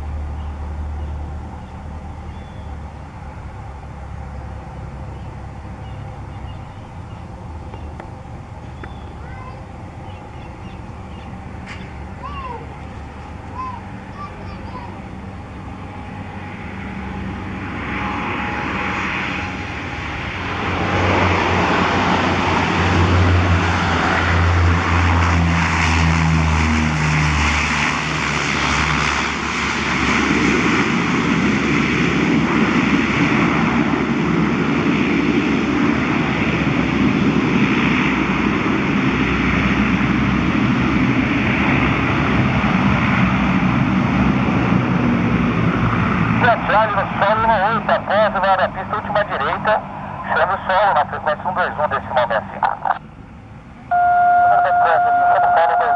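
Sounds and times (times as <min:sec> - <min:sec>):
aircraft rolling on runway: 0:00.0 - 0:55.9
turboprop engines droning: 0:00.0 - 0:55.9.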